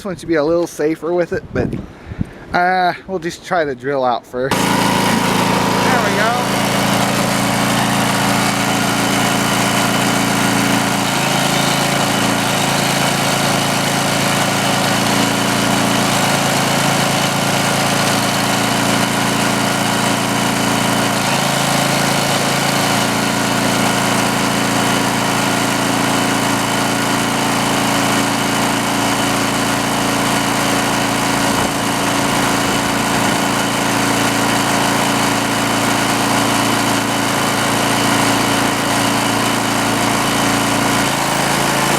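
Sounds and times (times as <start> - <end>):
generator engine running: 4.5 - 41.9.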